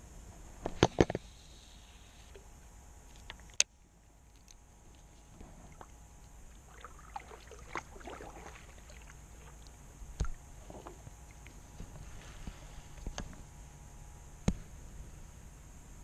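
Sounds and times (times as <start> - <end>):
faint low rumble: 0.0 - 16.0.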